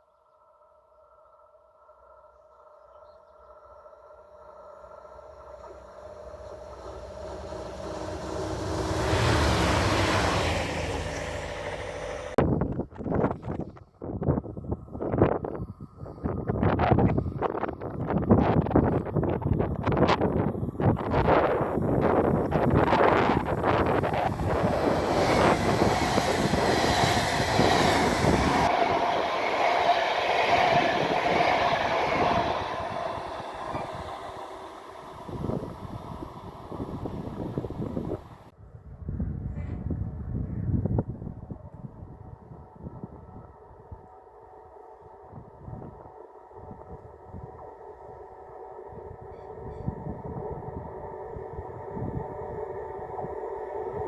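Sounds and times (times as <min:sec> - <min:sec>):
train passing: 0:01.0 - 0:54.0
wind buffeting microphone: 0:05.3 - 0:44.2, 0:45.1 - 0:54.0.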